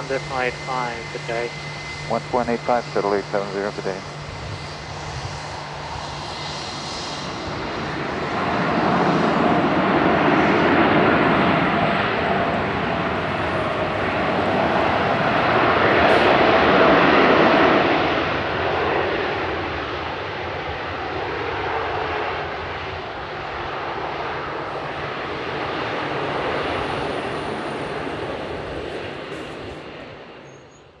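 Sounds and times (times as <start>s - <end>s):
jet airliner landing: 0.0s - 31.0s.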